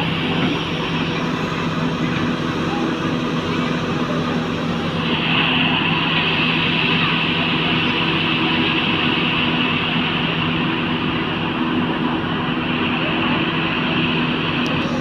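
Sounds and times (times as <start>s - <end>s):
heavy diesel engine running: 0.0s - 15.0s
hissing whine: 0.0s - 15.0s.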